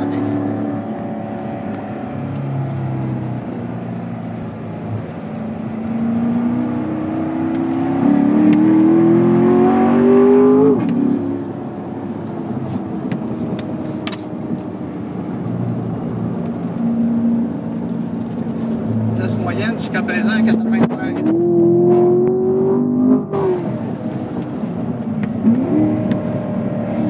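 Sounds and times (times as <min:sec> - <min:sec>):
car engine accelerating: 0:00.0 - 0:27.0
road and wind noise: 0:00.0 - 0:27.0.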